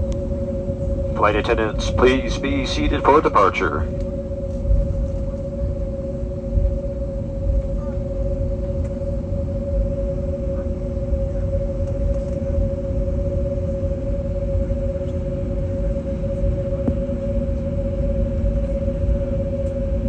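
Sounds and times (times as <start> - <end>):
airplane cabin rumble: 0.0 - 20.0
two-tone engine hum: 0.0 - 20.0.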